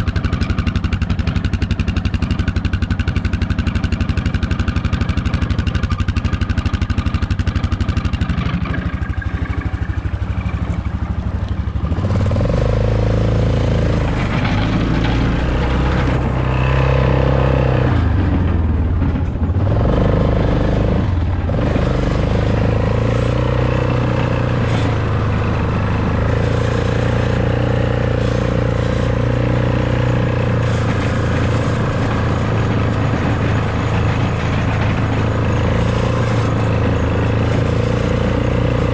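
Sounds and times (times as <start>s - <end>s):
atv engine: 0.0s - 38.9s.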